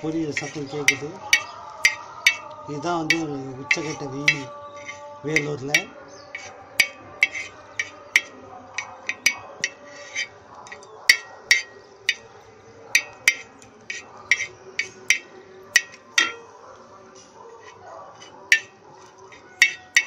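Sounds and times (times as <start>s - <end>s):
wooden spatula tapping an iron pan: 0.0s - 12.3s, 13.0s - 16.5s, 17.6s - 20.0s.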